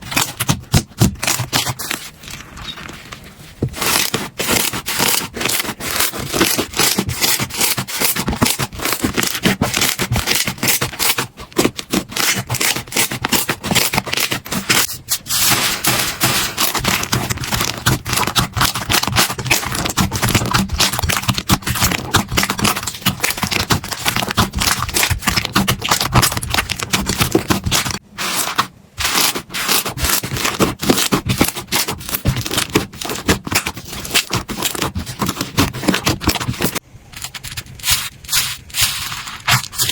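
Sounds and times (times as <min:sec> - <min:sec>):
slime rubbing and scraping: 0:00.0 - 0:39.9.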